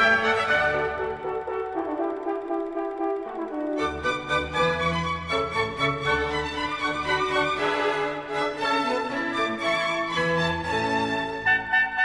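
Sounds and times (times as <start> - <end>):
orchestra with violins: 0.0 - 1.3, 3.6 - 12.0.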